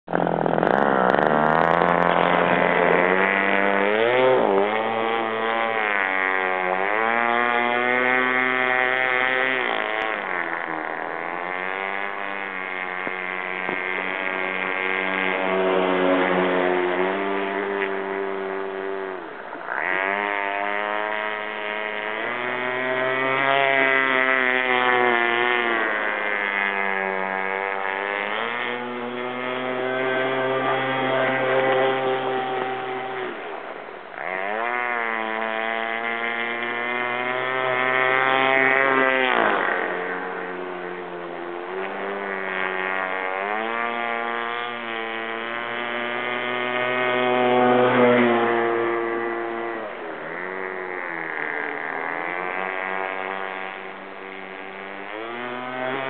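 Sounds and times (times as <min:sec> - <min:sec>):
model speedboat motor running: 0:00.0 - 0:56.0.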